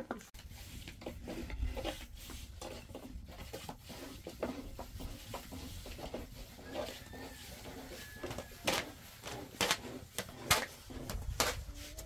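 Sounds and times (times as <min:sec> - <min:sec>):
stick scraping flatbread on griddle: 0:00.4 - 0:12.0.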